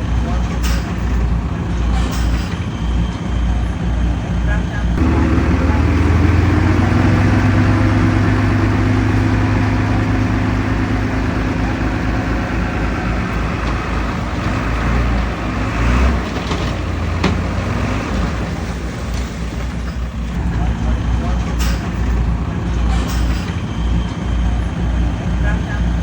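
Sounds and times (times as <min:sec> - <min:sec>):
heavy diesel engine humming: 0:00.0 - 0:26.0.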